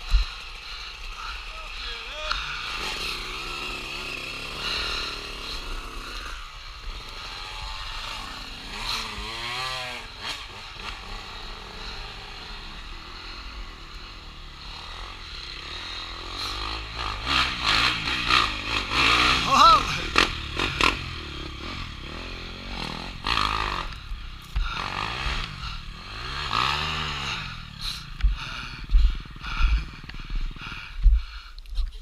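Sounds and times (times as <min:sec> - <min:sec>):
dirt bike engines revving: 0:00.0 - 0:31.6.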